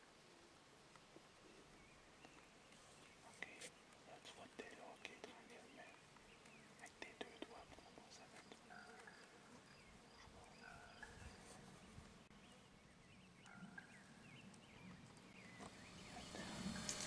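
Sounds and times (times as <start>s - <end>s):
birds chirping: 1.1s - 17.0s.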